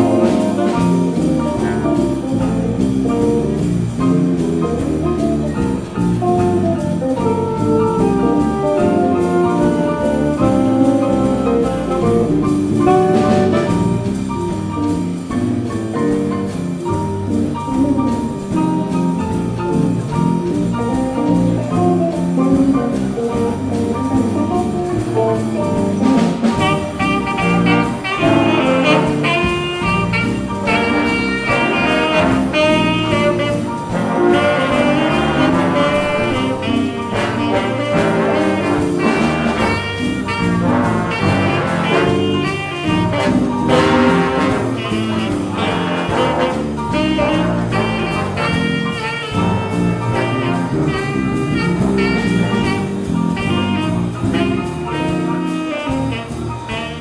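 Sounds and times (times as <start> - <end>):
horn riffs: 0.0 - 57.0
jazz band playing: 0.0 - 57.0.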